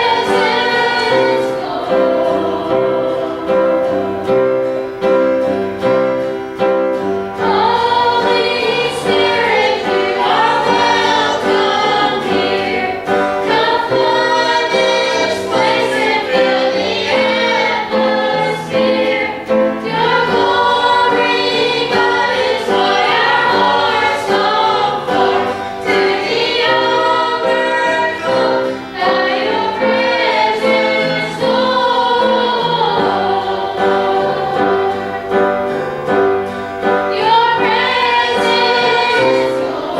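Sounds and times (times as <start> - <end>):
group singing gospel song: 0.0 - 6.3, 7.4 - 39.9
instrumental accompaniment: 0.0 - 39.9.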